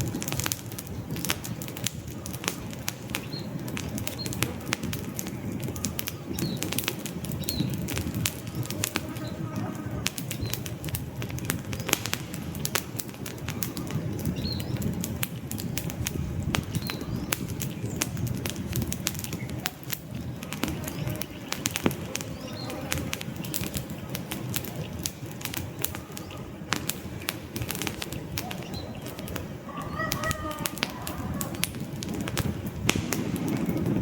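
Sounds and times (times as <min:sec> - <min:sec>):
campfire flames rushing: 0:00.0 - 0:34.0
logs crackling and popping: 0:00.0 - 0:34.0.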